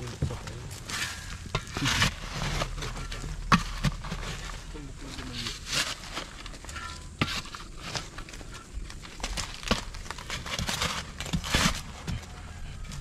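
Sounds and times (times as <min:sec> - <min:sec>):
shovel scraping stony soil: 0:00.0 - 0:13.0.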